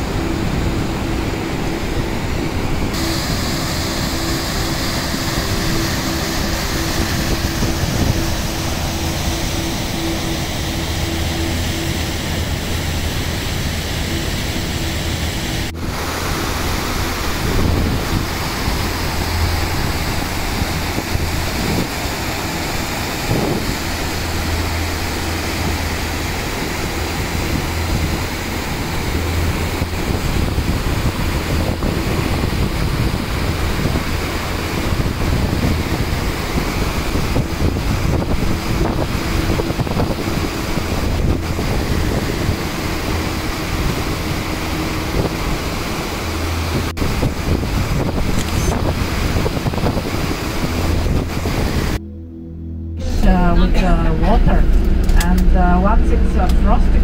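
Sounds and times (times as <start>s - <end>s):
waterfall rushing: 0.0s - 52.0s
wind buffeting microphone: 0.0s - 52.0s.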